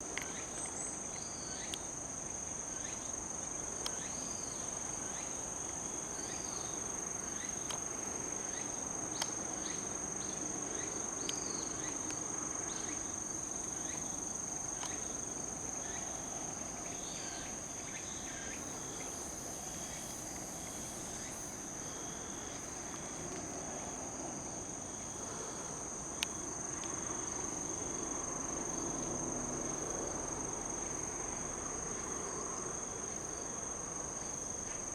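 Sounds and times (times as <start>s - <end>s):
insects droning: 0.0s - 34.9s.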